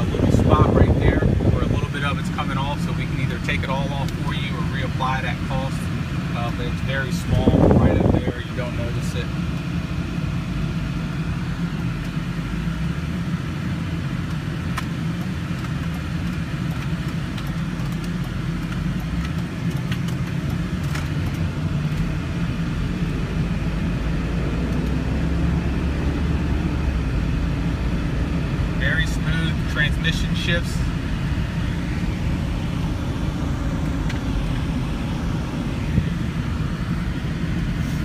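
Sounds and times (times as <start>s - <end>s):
car engine rumble: 0.0s - 38.0s
road noise in car cabin: 0.0s - 38.0s.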